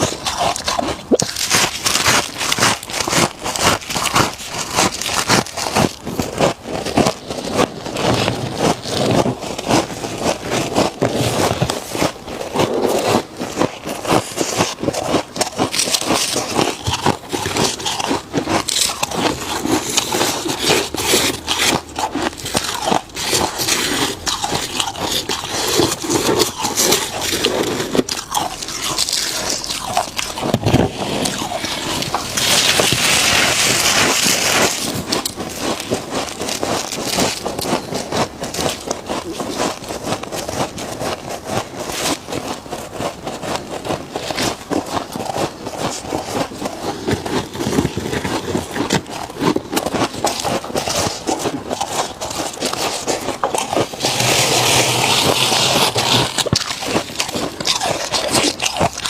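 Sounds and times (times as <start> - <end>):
frost being crunched and chewed: 0.0 - 59.0.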